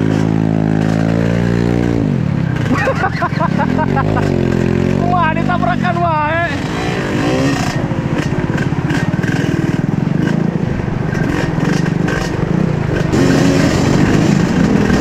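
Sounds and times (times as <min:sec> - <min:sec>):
motorcycle engine under throttle: 0:00.0 - 0:15.0.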